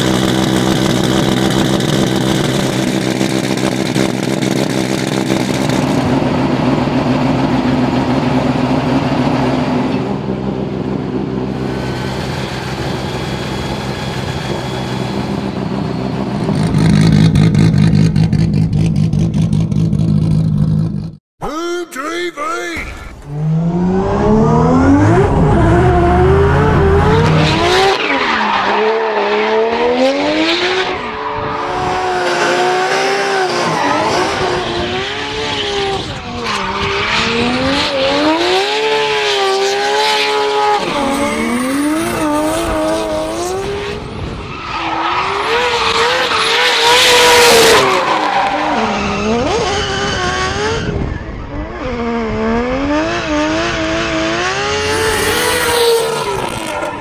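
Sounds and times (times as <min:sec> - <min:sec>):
car engine revving hard: 0:00.0 - 0:13.0, 0:23.2 - 0:44.4, 0:45.2 - 0:57.0.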